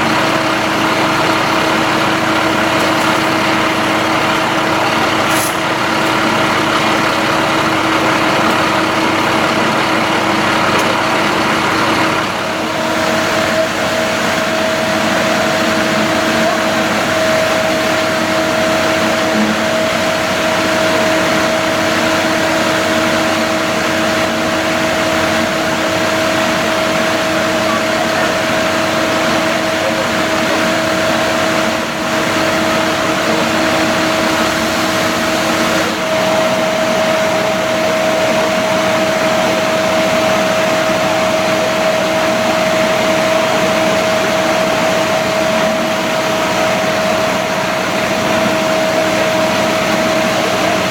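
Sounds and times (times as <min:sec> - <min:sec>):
machine droning: 0:00.0 - 0:50.9.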